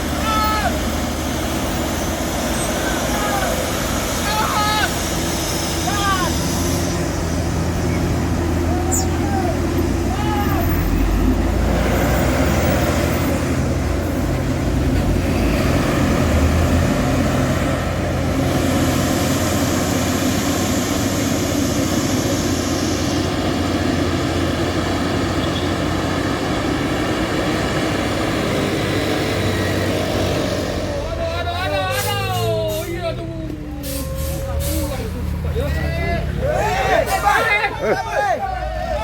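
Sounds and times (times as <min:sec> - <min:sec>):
truck diesel engine running: 0:00.0 - 0:39.0.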